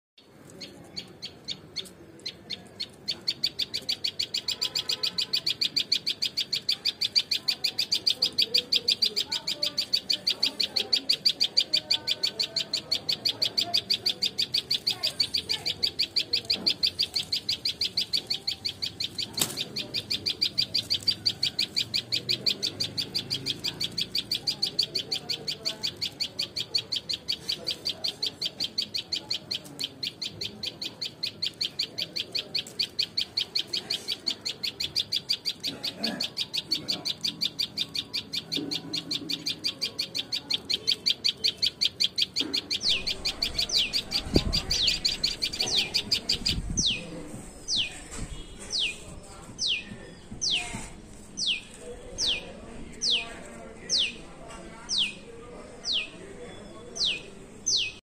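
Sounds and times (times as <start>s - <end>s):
high-pitched chirp: 0.2s - 58.0s.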